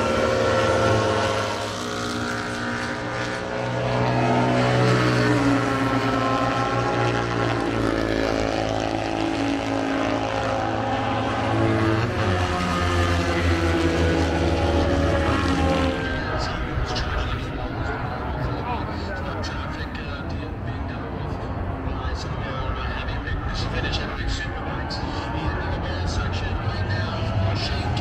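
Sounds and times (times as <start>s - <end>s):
racing motorcycle engines: 0.0s - 28.0s.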